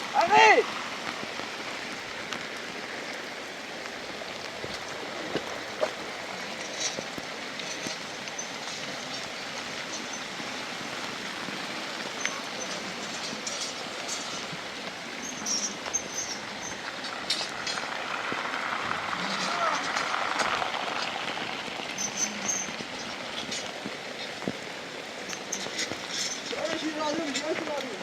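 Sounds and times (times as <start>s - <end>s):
heavy rain: 0.0s - 28.0s
sharp drips and small knocks: 0.0s - 28.0s.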